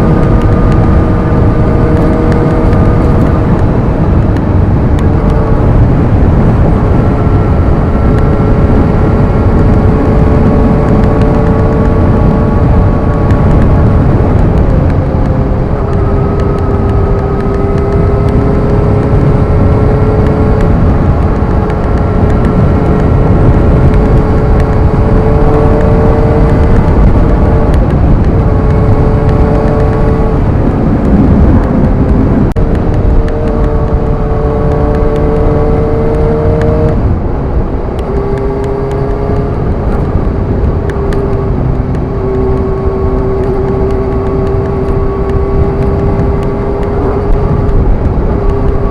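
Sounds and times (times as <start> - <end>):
motorcycle engine cruising: 0.0 - 48.9
wind rush on microphone: 0.0 - 48.9.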